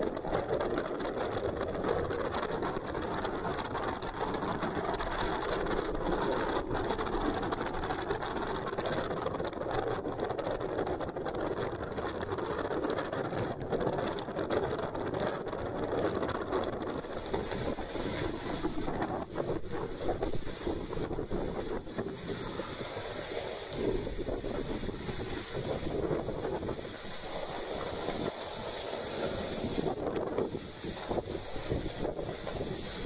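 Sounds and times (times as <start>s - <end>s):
choppy water washing: 0.0s - 33.0s
wind buffeting microphone: 0.0s - 33.0s.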